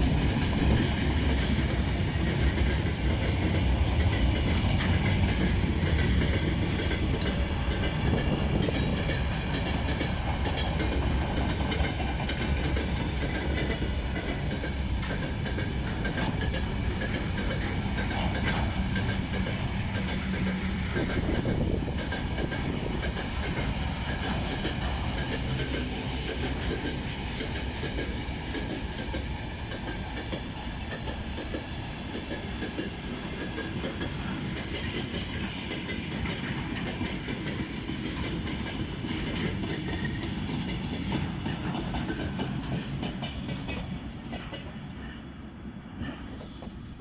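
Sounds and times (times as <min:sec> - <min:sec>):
faint ringing from wheels and rails: 0:00.0 - 0:47.0
train wheels clacking over rails: 0:00.0 - 0:47.0.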